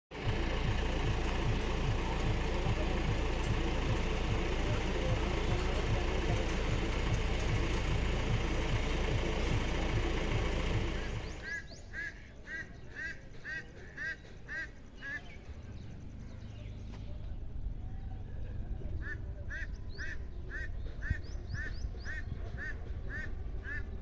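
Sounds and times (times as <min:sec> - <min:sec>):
low traffic rumble: 0:00.1 - 0:24.0.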